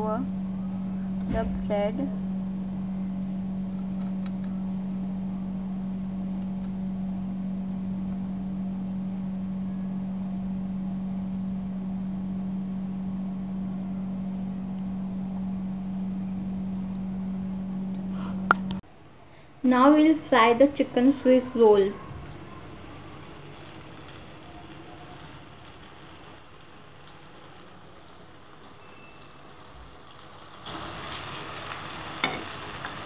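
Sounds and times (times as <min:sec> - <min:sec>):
low machine hum: 0:00.0 - 0:32.8.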